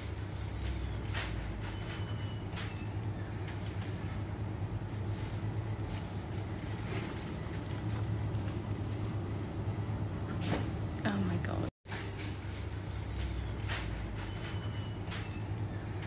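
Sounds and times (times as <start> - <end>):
low hum of refrigeration: 0.0 - 16.0.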